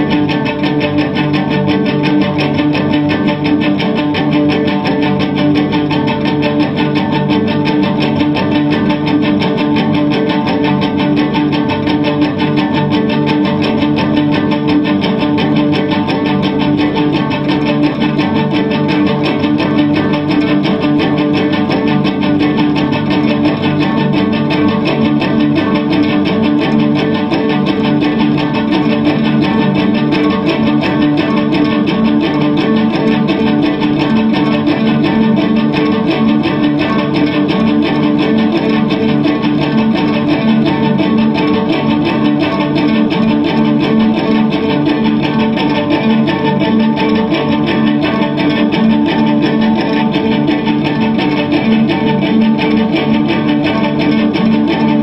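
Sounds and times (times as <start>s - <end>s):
sustained cello tones: 0.0s - 55.0s.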